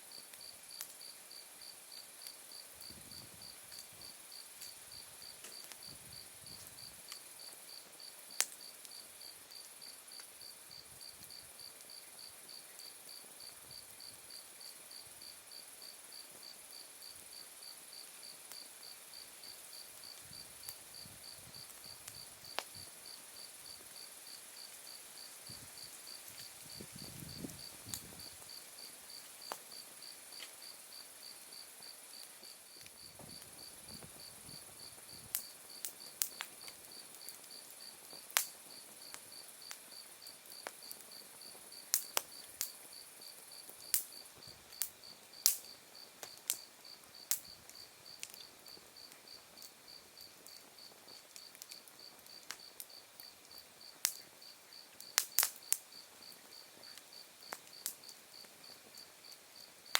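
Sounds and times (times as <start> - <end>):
continuous high insect trill: 0.0 - 59.9
insect chirping steadily: 0.0 - 59.9
burning wood soft rustle: 0.1 - 59.9
campfire popping and crackling: 0.2 - 14.5, 18.0 - 59.9.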